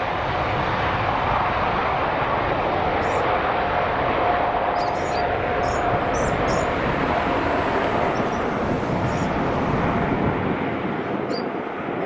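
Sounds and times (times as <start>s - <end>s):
airplane engines running: 0.0s - 12.0s.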